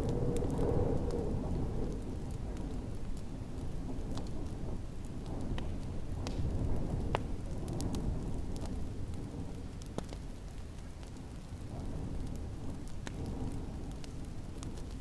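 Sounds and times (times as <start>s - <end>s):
low rumble of storm wind: 0.0s - 15.0s
wood fire crackling and popping: 0.0s - 15.0s.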